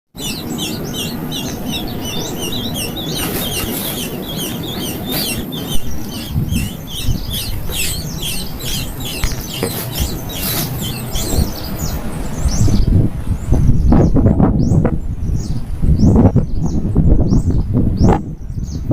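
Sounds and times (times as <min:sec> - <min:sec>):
baby birds chirping: 0:00.2 - 0:18.8
steady low rumble: 0:00.2 - 0:18.9.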